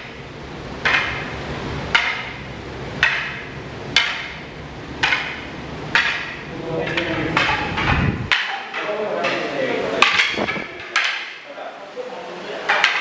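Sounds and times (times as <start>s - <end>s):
wooden swords clacking: 0.0s - 11.4s, 12.6s - 13.0s.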